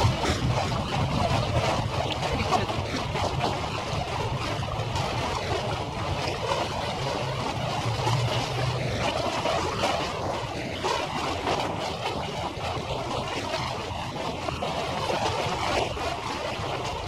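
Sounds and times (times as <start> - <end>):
low ship engine hum: 0.0 - 17.0.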